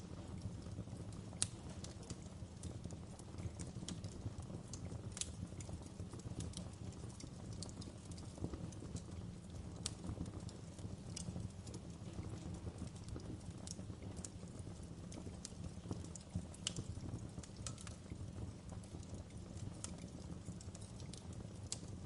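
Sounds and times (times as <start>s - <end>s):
campfire crackling and popping: 0.0s - 22.0s
low rumble of burning wood: 0.0s - 22.0s.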